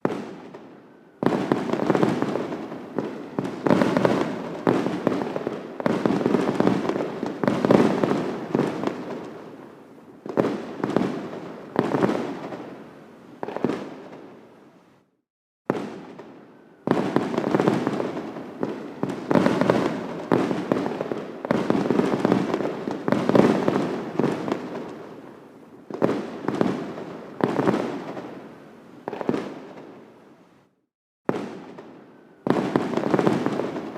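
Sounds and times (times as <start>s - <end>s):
fireworks bangs and crackling: 0.0s - 14.6s, 15.7s - 30.3s, 31.3s - 33.9s.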